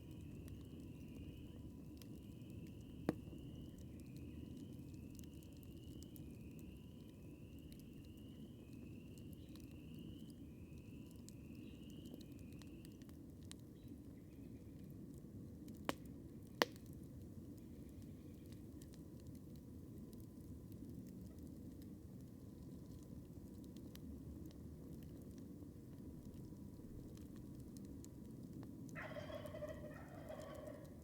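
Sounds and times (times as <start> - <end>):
fire popping: 0.0 - 14.2, 15.1 - 31.0
campfire burning: 0.0 - 31.0.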